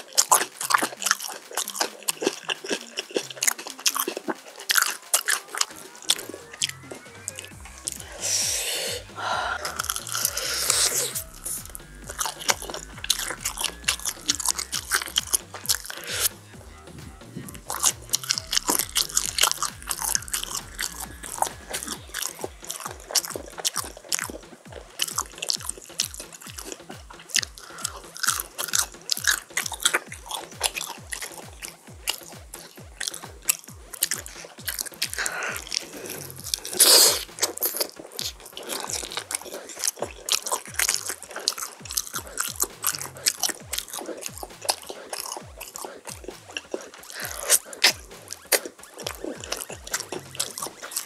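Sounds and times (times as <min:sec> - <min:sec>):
crunching and chewing: 0:00.0 - 0:51.0.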